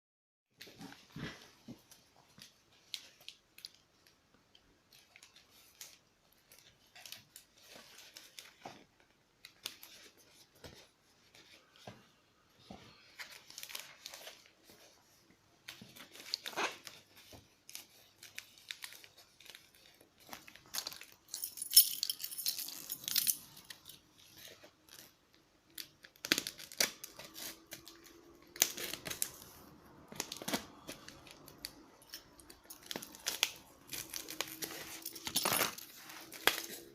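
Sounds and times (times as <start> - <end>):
paper and plastic wrapping rustling: 0.6 - 21.4, 22.0 - 36.9.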